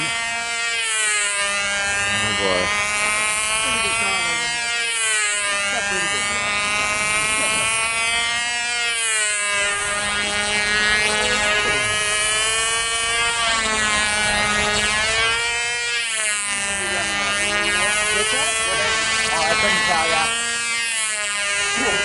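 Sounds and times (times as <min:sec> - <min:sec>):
model airplane engine buzzing: 0:00.0 - 0:22.0.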